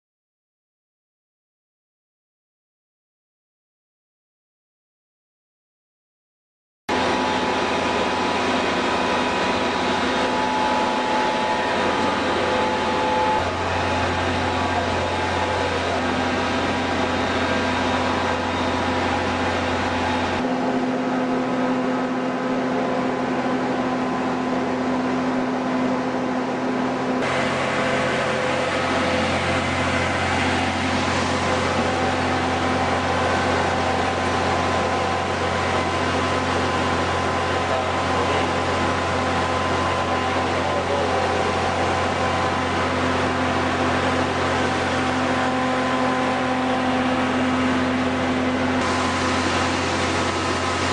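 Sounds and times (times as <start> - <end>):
machinery whining tones: 6.9 - 50.9
motor hum: 6.9 - 50.9.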